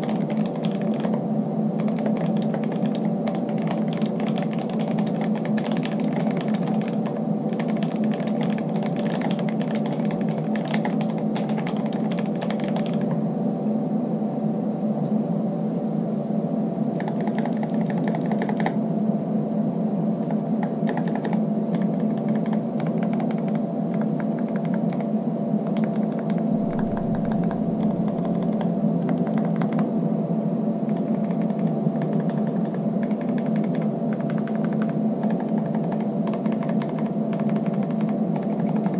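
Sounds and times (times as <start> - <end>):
typing on mechanical keyboard: 0.0 - 1.2, 1.8 - 13.2, 17.0 - 18.8, 20.6 - 29.9, 30.9 - 38.9
steady low hum: 0.0 - 38.9.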